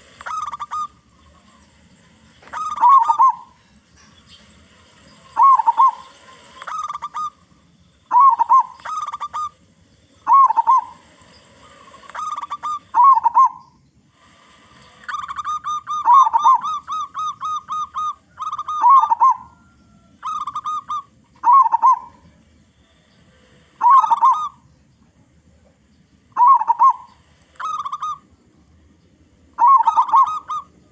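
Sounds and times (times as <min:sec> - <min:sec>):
dove cooing: 0:00.0 - 0:24.7, 0:25.7 - 0:30.9.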